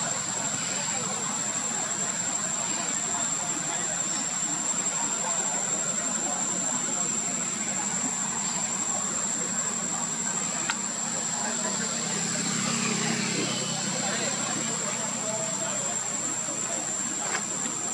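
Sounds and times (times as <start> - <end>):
high-pitched whine: 0.0 - 17.9.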